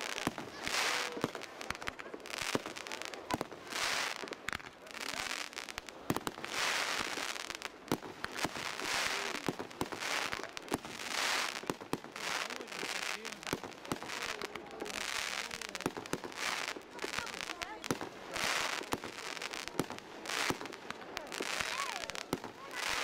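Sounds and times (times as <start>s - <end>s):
fireworks cracking and crackling: 0.0s - 23.0s
fireworks hissing: 0.0s - 23.0s.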